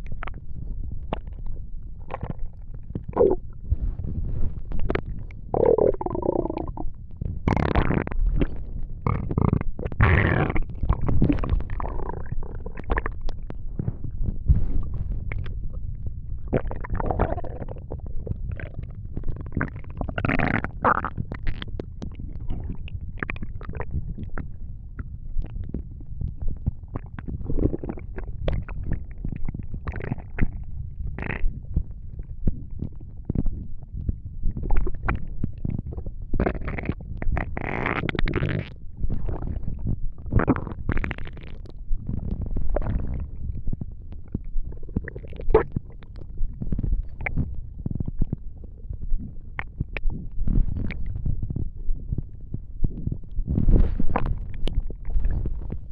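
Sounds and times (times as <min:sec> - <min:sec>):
stomach gurgling and rumbling: 0:00.0 - 0:55.9.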